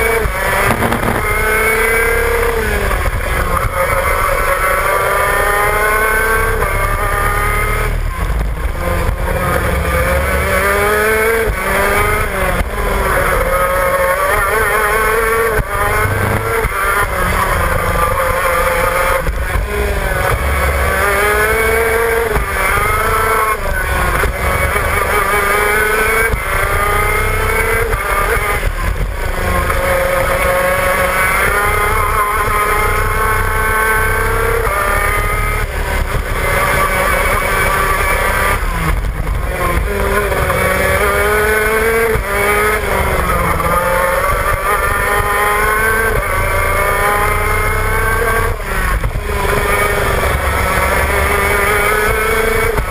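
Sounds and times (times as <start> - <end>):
kart engine revving: 0.0 - 52.9.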